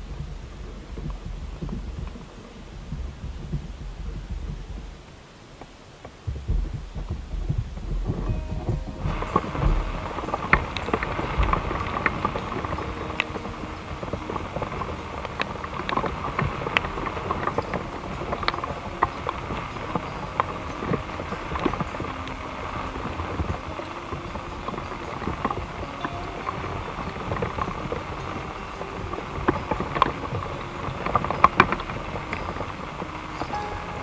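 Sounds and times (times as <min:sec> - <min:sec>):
heavy rain on a tent: 0:00.0 - 0:34.0
low rumbling: 0:00.0 - 0:34.0.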